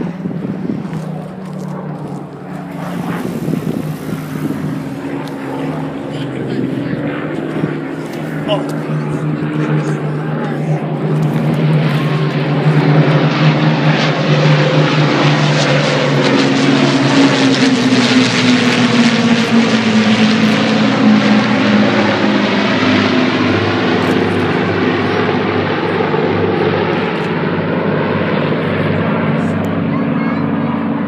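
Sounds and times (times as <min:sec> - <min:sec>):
propeller aeroplane flying past: 0:00.0 - 0:31.0.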